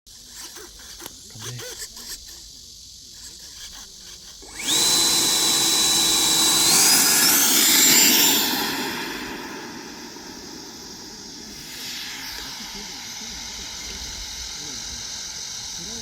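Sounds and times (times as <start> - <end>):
electric ducted fan whine: 1.0 - 16.0.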